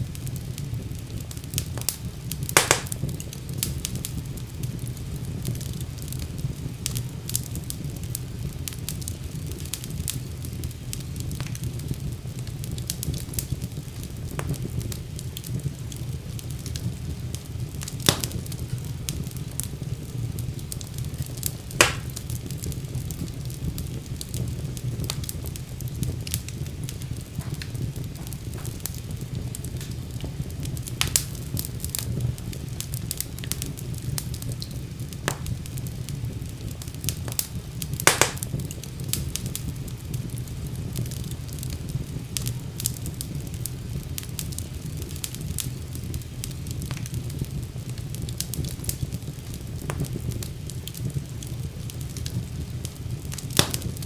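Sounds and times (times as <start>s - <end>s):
fire crackling in a fireplace: 0.0s - 54.0s
sharp pops of fire: 0.0s - 54.0s.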